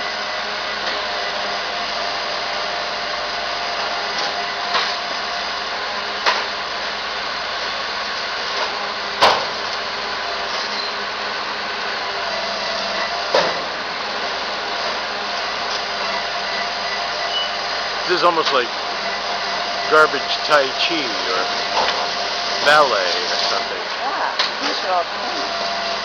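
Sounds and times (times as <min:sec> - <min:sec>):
garbage truck running: 0:00.0 - 0:26.0.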